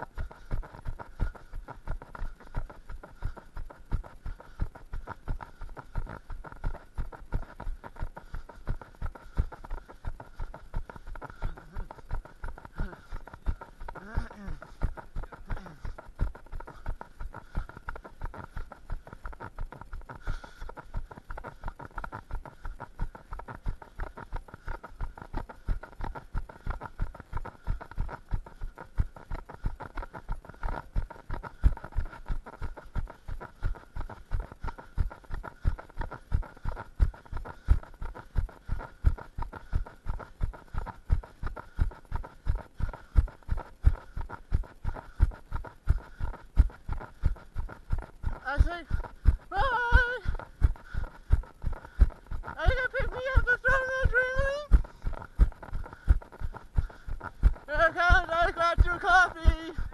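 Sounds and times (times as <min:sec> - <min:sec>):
running footsteps on pavement: 0:00.0 - 0:59.9.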